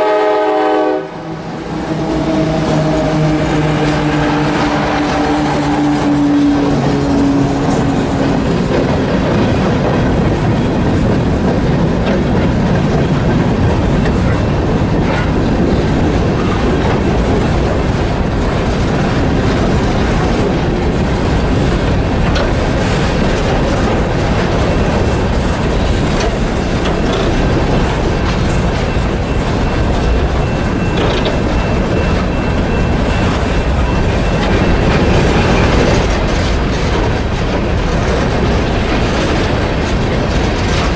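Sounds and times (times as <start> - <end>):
clickety-clack over rail joints: 0.0 - 40.9
freight train wheels rumbling: 0.0 - 40.9.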